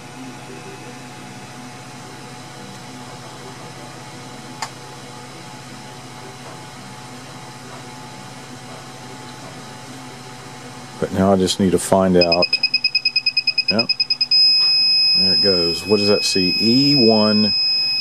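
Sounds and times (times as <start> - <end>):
printer fans and motors whirring: 0.0 - 18.0.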